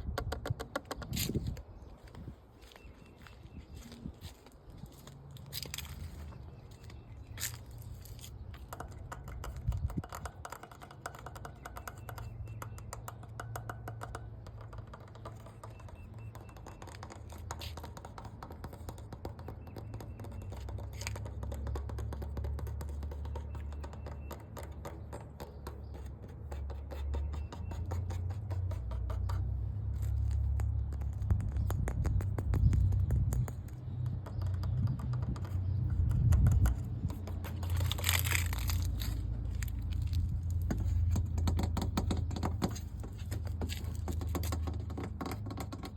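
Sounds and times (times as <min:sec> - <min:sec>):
fingernails tapping and scratching: 0:00.0 - 0:02.3, 0:05.4 - 0:45.9.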